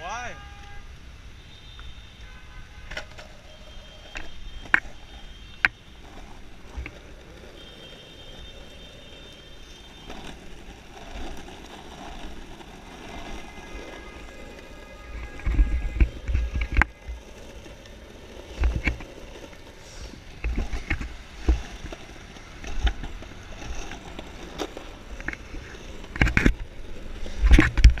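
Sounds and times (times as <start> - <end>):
longboard wheels rumbling on asphalt: 0.7 - 28.0.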